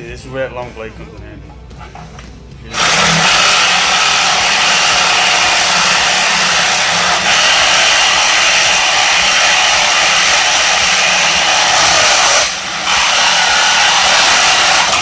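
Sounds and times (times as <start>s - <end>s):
reciprocating saw cutting wood: 2.8s - 15.0s.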